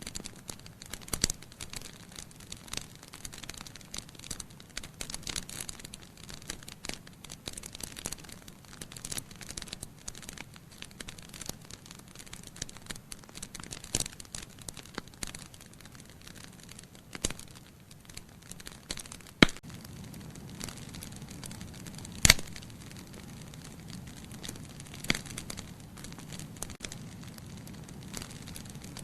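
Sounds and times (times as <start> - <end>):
fire crackling and popping: 0.0 - 29.0
fire hissing: 0.0 - 29.0.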